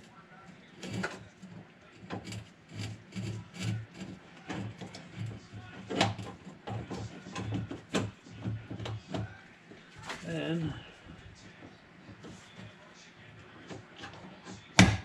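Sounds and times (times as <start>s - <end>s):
rubbing and scraping: 0.0s - 15.0s.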